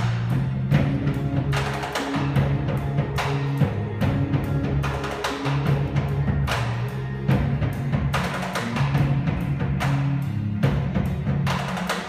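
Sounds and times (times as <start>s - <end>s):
drums beating steadily: 0.0s - 12.0s
keyboard: 0.0s - 12.0s.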